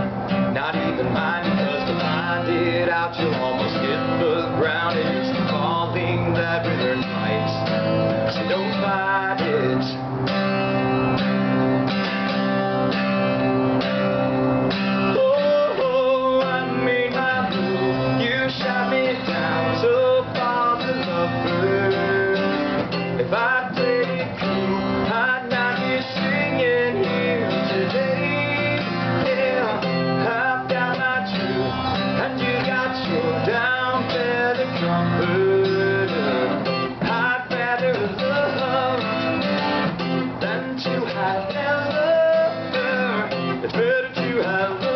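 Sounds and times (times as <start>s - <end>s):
strummed acoustic guitar: 0.0s - 44.9s.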